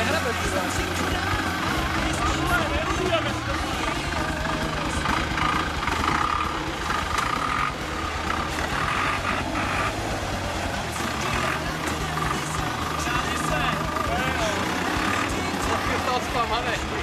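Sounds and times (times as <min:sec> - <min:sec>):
churning noise burst: 0:00.0 - 0:17.0
steady high whine: 0:00.0 - 0:17.0
vehicle engine under load: 0:00.0 - 0:17.0.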